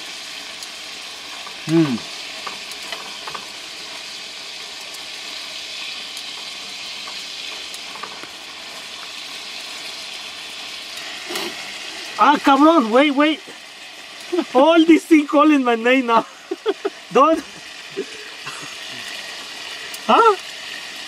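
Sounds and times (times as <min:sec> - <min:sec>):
meat sizzling in a skillet: 0:00.0 - 0:21.0.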